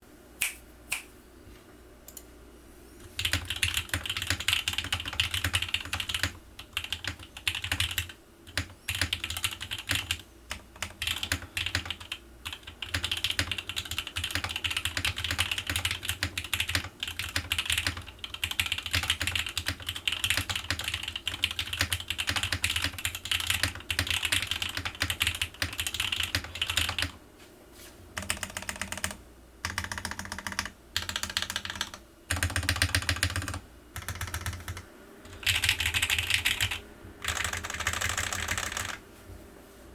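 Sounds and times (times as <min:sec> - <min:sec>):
mechanical keyboard typing: 0:03.1 - 0:27.2, 0:28.2 - 0:39.0.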